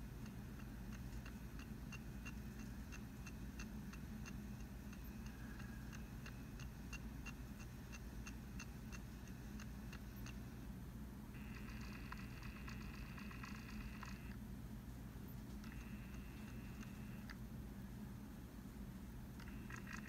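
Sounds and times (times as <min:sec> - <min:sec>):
soft electronic ticks: 0:00.0 - 0:10.6, 0:11.4 - 0:14.4, 0:15.3 - 0:17.4, 0:19.3 - 0:20.0
steady low hum: 0:00.0 - 0:20.0.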